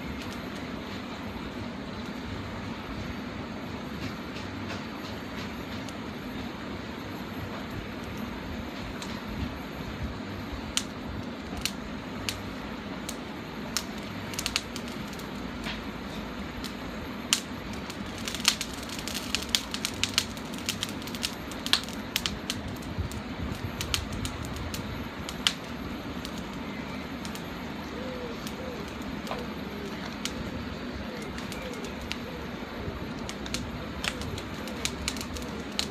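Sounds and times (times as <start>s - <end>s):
charcoal fire crackling and popping: 0.0s - 35.9s
low background rumble: 0.0s - 35.9s.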